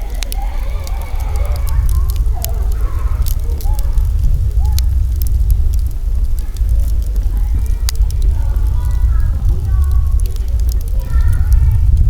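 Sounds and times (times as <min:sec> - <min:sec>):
campfire crackling and popping: 0:00.0 - 0:12.0
faint distant voices: 0:00.0 - 0:12.0
low rumble: 0:00.0 - 0:12.0.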